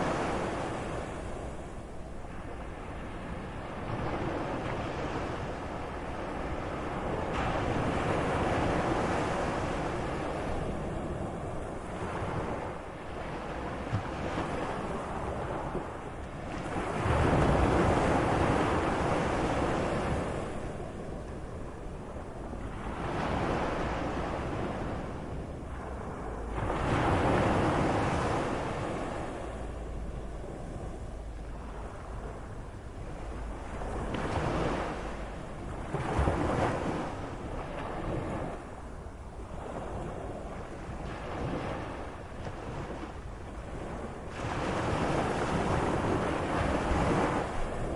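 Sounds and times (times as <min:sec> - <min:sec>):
sea waves washing: 0:00.0 - 0:47.9
wind noise on microphone: 0:00.0 - 0:47.9.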